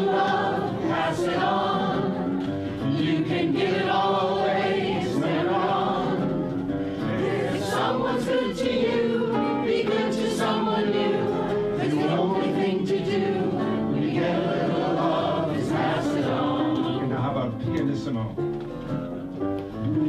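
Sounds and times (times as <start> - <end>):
group singing: 0.0 - 17.6
piano: 0.0 - 20.0.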